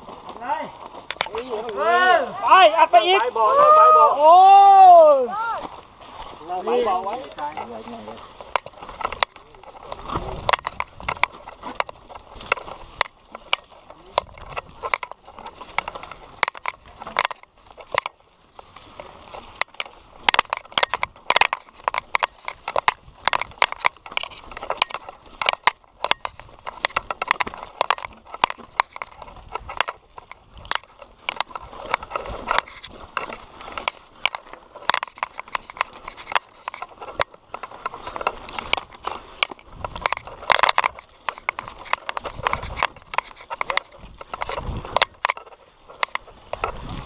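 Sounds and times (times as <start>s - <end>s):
mountain bike rattling on dirt trail: 0.0s - 47.0s.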